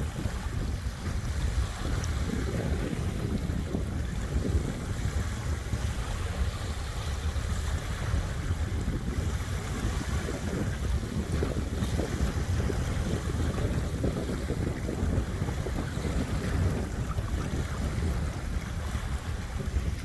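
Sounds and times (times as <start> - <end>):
small waves washing on shore: 0.0 - 20.0
wind gusting on microphone: 0.0 - 20.0.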